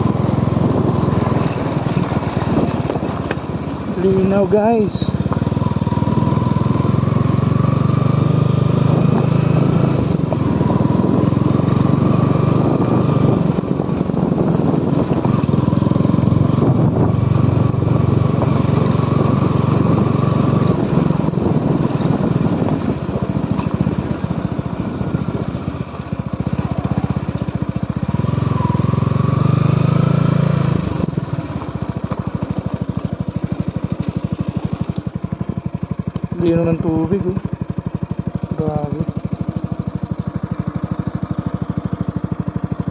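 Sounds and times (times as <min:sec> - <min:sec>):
small motorcycle engine revving: 0:00.0 - 0:42.9.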